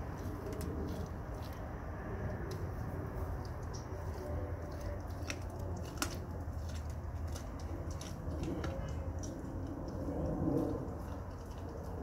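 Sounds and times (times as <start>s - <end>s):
dog chewing bone: 0.0s - 12.0s
steady low rumble: 0.0s - 12.0s.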